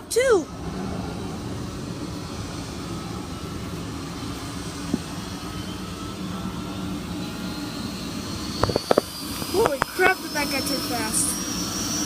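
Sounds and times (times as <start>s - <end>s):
distant jet engines starting up: 0.0s - 12.0s.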